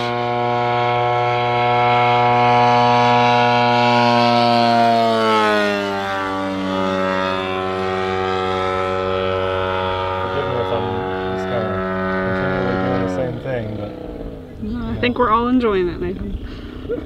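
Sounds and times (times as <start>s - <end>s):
model plane engine passing: 0.0s - 17.0s.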